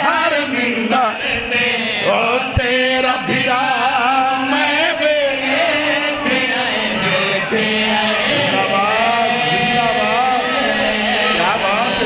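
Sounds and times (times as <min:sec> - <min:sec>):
men chanting over a pa: 0:00.0 - 0:12.0.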